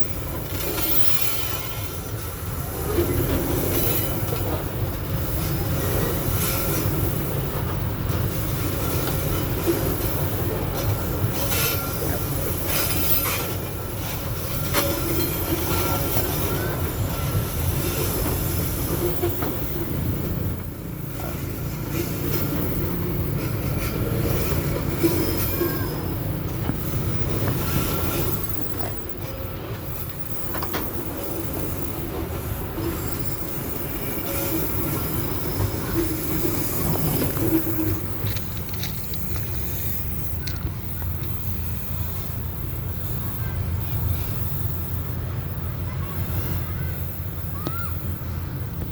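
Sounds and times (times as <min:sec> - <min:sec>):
train wheels squealing: 0:00.0 - 0:48.8
rail clatter: 0:00.0 - 0:48.9
train wagons rumbling past: 0:00.0 - 0:48.9.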